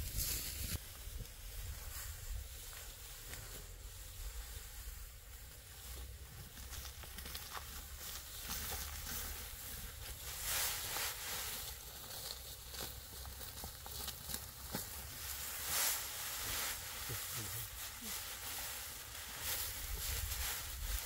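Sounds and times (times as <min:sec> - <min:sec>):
dry stalks rustling and crackling: 0:00.0 - 0:21.0.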